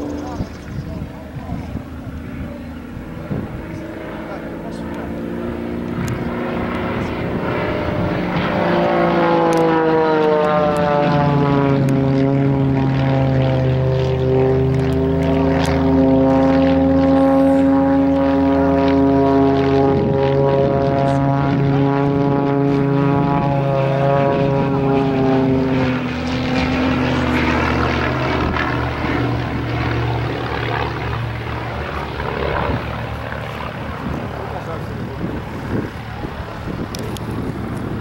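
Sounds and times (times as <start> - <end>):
propeller planes flying: 0.0 - 38.0.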